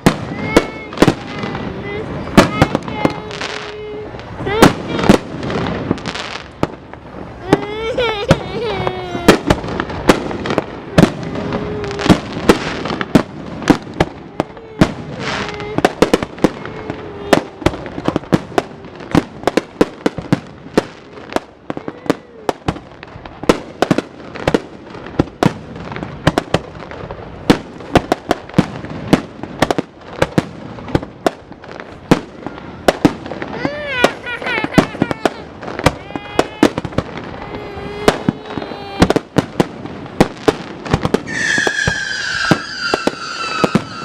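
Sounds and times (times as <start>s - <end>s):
fireworks banging and cracking: 0.0s - 44.0s.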